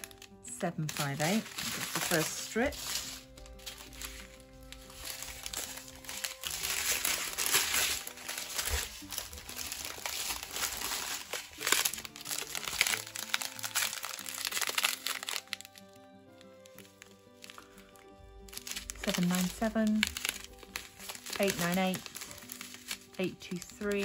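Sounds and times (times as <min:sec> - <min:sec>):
plastic bags crinkling: 0:00.0 - 0:24.0
soft background music: 0:00.0 - 0:24.0.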